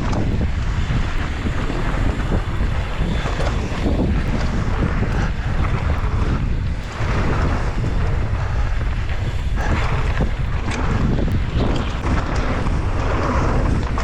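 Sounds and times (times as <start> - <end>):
bike tyres on dirt trail: 0.0 - 14.0
wind buffeting microphone: 0.0 - 14.0.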